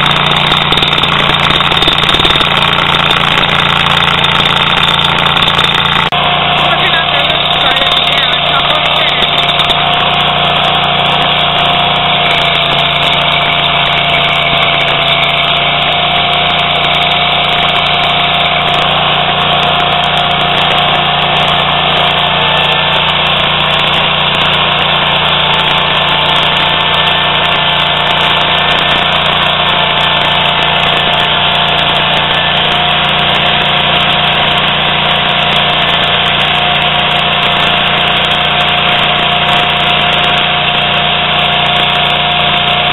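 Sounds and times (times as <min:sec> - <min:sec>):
stump grinder engine running: 0:00.0 - 0:42.9.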